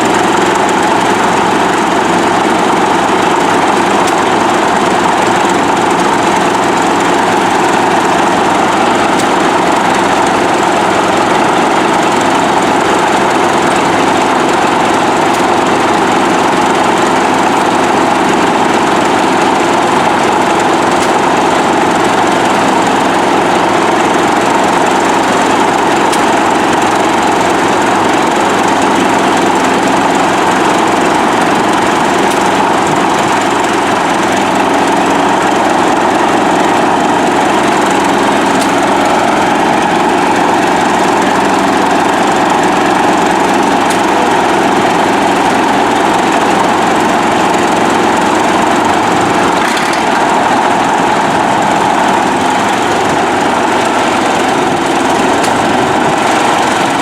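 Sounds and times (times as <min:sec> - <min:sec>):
diesel engine running: 0:00.0 - 0:57.0
motor running: 0:00.0 - 0:57.0.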